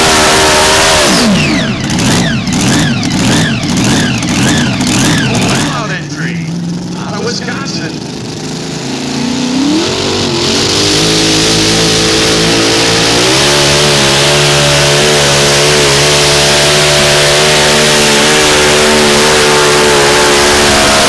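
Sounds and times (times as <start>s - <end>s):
tractor engine at full throttle: 0.0s - 21.0s.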